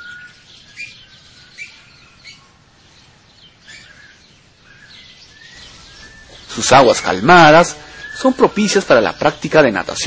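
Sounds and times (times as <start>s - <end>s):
birds chirping: 0.0s - 10.0s
faint background hiss: 0.0s - 10.0s.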